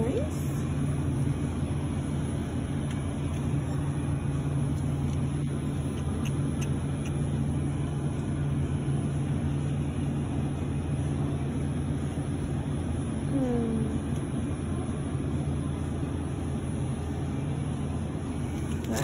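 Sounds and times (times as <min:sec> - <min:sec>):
refrigerated case hum: 0:00.0 - 0:19.0.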